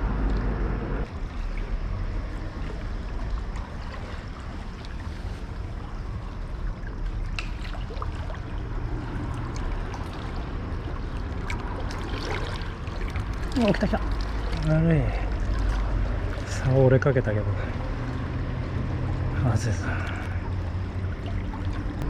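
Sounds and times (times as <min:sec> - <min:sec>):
faint water noise: 0:00.0 - 0:22.0.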